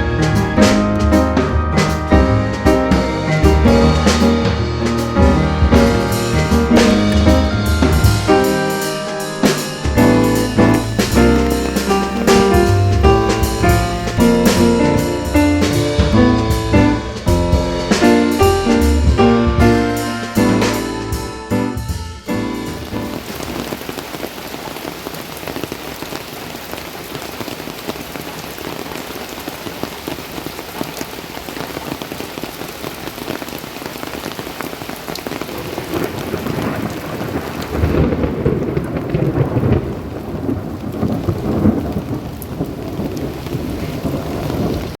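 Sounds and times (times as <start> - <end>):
thunder rumbling: 0.0 - 28.9, 29.5 - 45.0
steady rain: 0.0 - 45.0.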